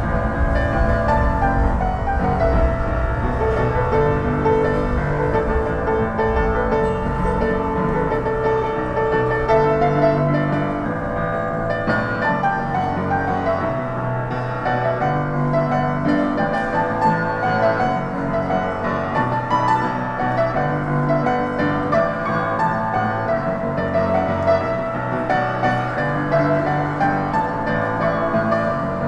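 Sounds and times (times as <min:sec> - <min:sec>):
solo piano: 0:00.0 - 0:29.0.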